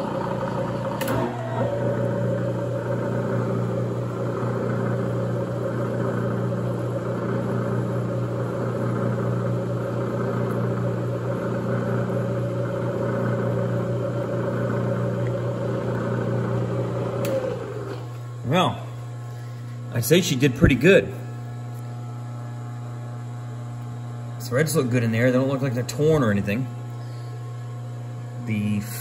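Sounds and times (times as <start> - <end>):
drill press motor and belt hum: 0.0 - 29.0.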